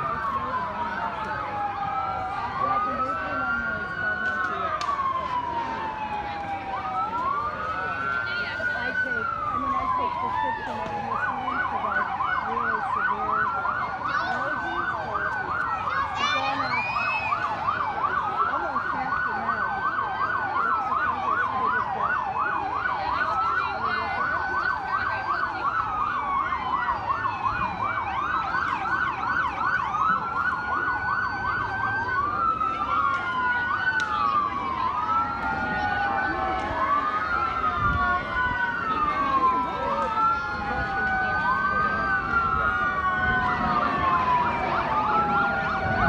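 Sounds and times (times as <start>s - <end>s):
emergency vehicle sirens wailing and yelping: 0.0s - 46.0s.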